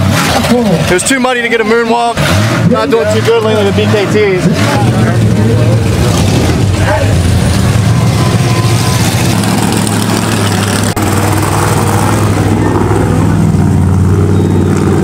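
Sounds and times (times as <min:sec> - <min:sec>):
truck engine deep rumble: 0:00.0 - 0:15.0.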